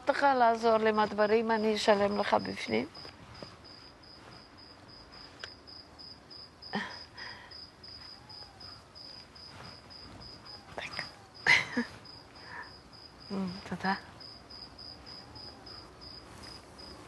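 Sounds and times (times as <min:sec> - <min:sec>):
crickets chirping: 0:00.1 - 0:17.0.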